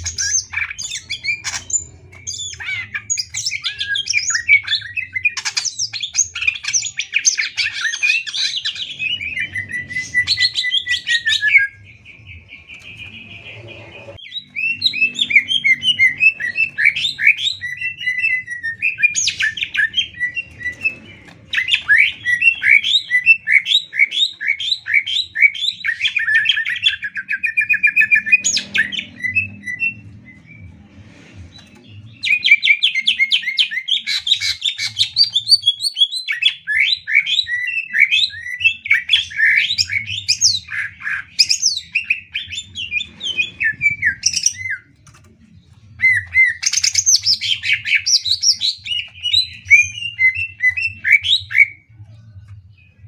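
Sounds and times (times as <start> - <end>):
bird trill: 0.0 - 30.8, 31.6 - 45.1.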